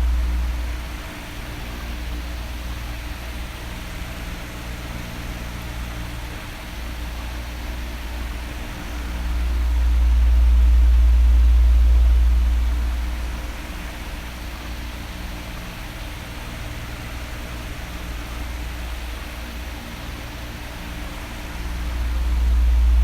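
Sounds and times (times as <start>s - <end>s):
electric fan running: 0.0s - 23.0s.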